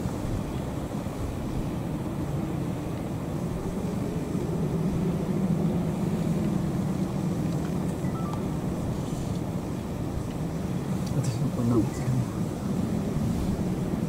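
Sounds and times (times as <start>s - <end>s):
distant engine humming: 0.0s - 14.0s.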